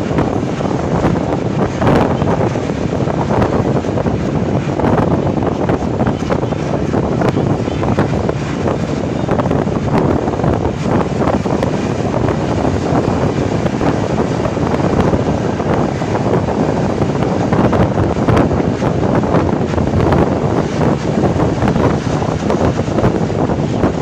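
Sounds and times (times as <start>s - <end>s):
bus running along road: 0.0s - 24.0s
wind rushing over microphone: 0.0s - 24.0s.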